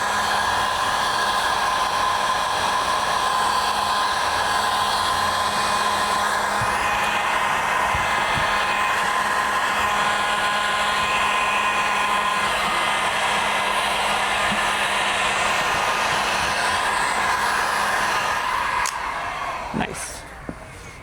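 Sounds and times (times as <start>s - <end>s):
heat gun blowing with faint whine: 0.0s - 21.0s.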